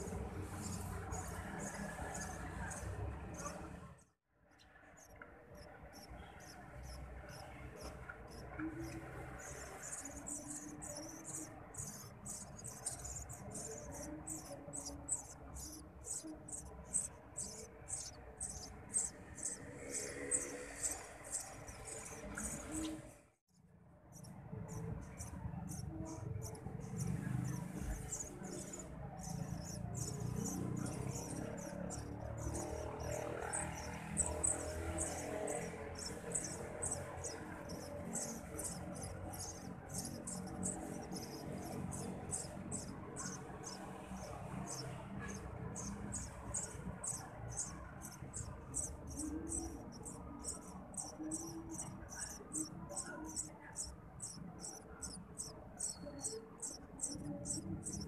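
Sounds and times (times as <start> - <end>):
nestlings chirping: 0.0 - 3.8, 4.9 - 23.2, 24.1 - 58.0.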